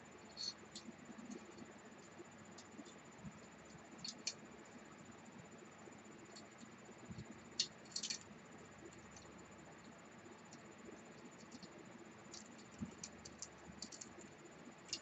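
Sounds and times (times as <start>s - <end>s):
cpu cooler hardware clicking and rattling: 0.2s - 4.9s, 6.0s - 15.0s.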